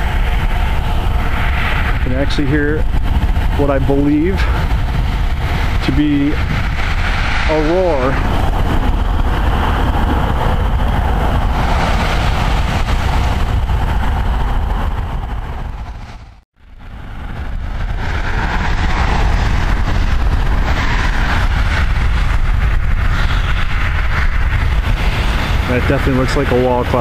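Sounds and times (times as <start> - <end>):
strong wind on microphone: 0.0 - 27.0.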